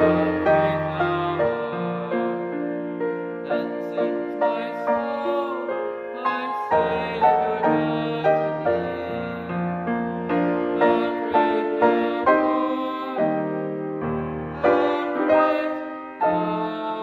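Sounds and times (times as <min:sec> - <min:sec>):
slow piano piece: 0:00.0 - 0:17.0.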